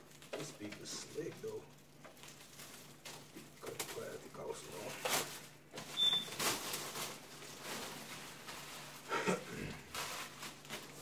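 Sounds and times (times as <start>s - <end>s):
plastic stretch wrap crinkling: 0.0s - 11.0s.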